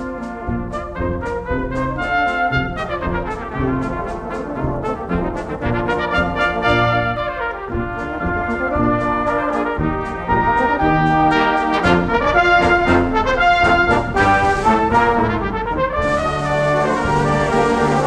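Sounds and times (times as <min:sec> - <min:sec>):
brass band playing a march: 0:00.0 - 0:18.0.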